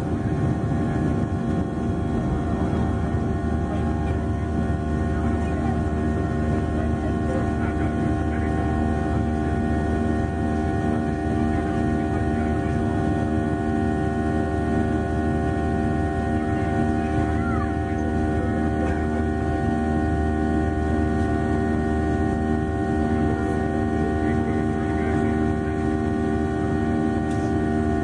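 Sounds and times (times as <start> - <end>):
jet engines rumbling and whining: 0.0 - 28.0.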